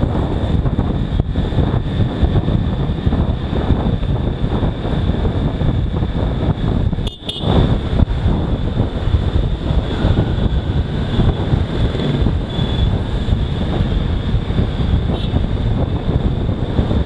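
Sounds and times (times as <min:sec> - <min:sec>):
vehicle noise: 0:00.0 - 0:17.0
wind rushing on microphone: 0:00.0 - 0:17.0.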